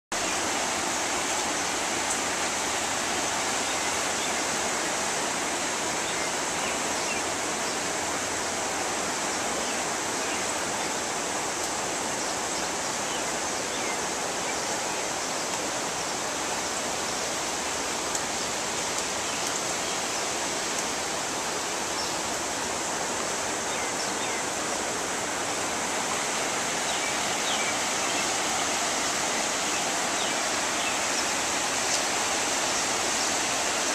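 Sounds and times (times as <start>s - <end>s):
floodwater rushing: 0.2s - 33.9s.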